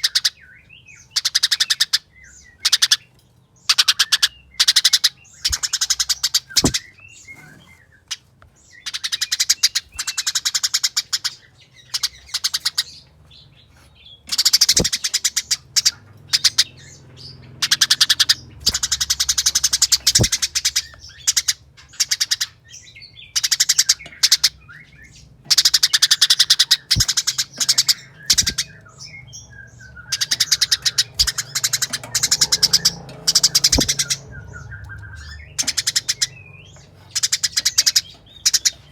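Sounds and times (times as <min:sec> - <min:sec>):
sparrows chattering: 0:00.0 - 0:38.9.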